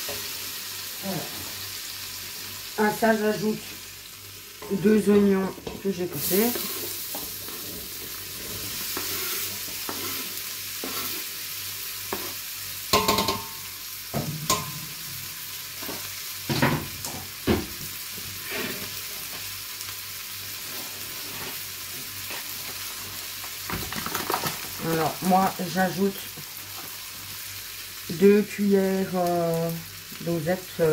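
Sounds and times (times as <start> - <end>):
onions sizzling in a pot: 0.0 - 30.9.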